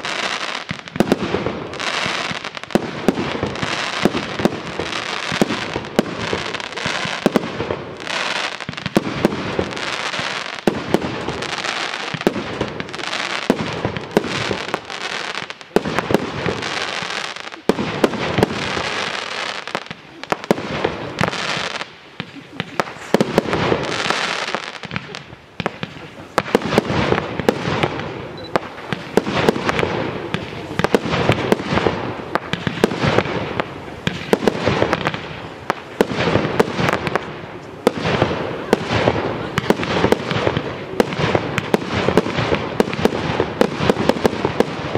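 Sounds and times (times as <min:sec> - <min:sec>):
firework crackling: 0:00.0 - 0:44.9.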